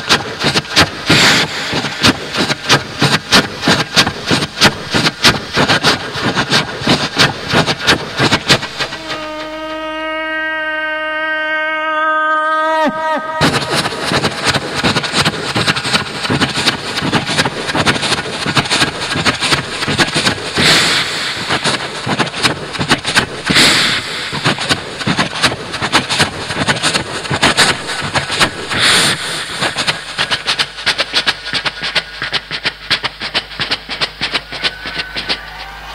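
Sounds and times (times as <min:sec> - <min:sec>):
vocal steam hissing blasts: 0:00.0 - 0:10.6, 0:12.9 - 0:32.1
person imitating steam train chuffing: 0:00.0 - 0:35.9.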